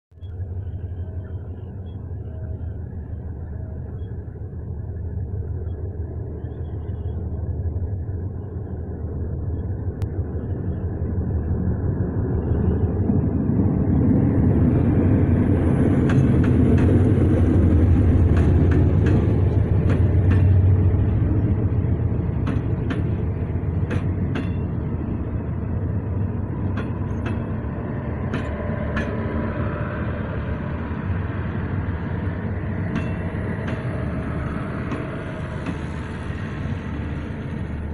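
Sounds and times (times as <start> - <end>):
diesel locomotive rumble: 0.2 - 37.9.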